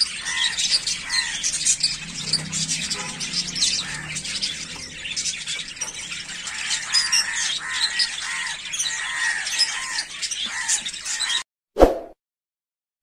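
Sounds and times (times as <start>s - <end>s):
lovebirds chirping and squawking: 0.0s - 11.4s.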